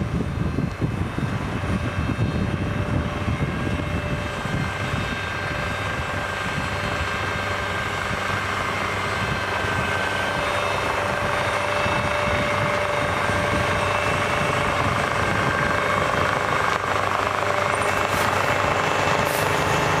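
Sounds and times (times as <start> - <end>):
heavy vehicle engine droning: 0.0 - 20.0.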